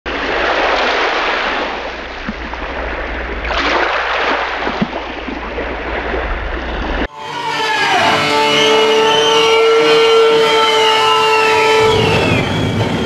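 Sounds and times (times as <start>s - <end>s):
rushing underwater ambience: 0.1s - 13.0s.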